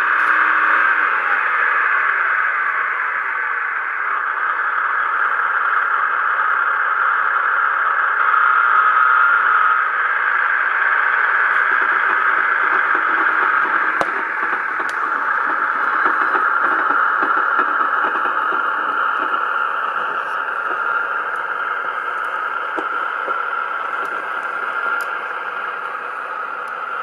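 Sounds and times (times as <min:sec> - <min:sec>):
tinny model diesel engine sound: 0:00.0 - 0:27.0.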